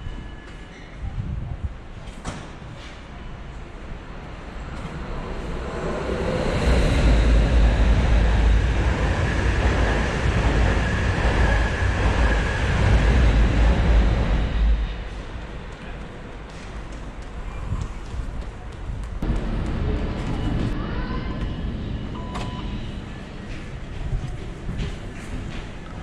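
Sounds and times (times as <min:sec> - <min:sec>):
train rumbling overhead: 0:00.0 - 0:26.0.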